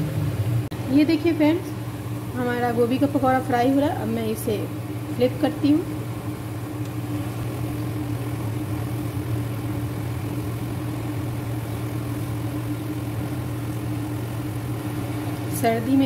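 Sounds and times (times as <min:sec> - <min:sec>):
constant low hum: 0:00.0 - 0:16.0
food deep-frying in oil: 0:00.0 - 0:16.0.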